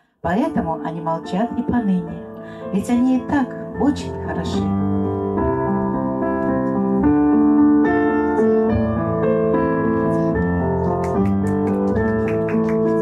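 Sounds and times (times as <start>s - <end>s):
piano melody: 0.2s - 13.0s.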